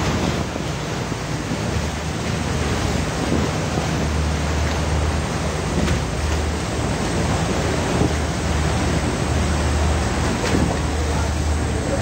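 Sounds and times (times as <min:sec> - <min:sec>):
boat engine droning: 0:00.0 - 0:12.0
water splashing across deck: 0:00.0 - 0:12.0.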